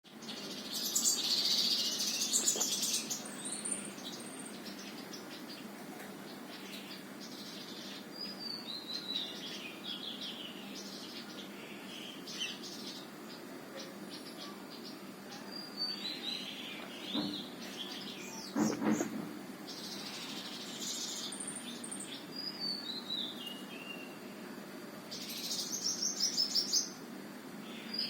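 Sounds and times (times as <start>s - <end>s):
birds chirping: 0.1s - 28.0s.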